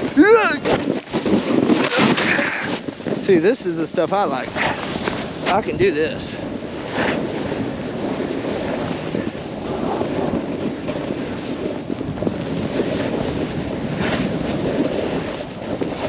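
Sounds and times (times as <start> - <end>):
snowboard sliding over snow: 0.0 - 16.0
wind on microphone: 0.0 - 16.0.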